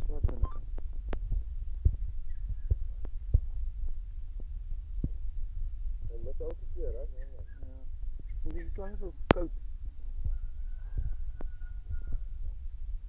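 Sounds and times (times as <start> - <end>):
microphone handling thumps and clicks: 0.0 - 12.3
wind rumble on microphone: 0.0 - 13.0.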